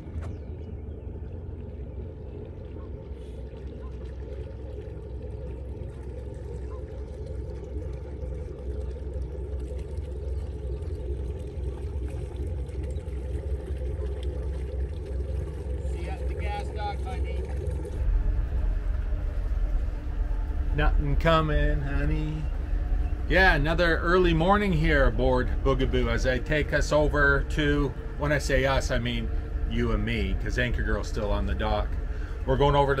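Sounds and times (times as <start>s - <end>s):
boat engine idling rumble: 0.0s - 33.0s.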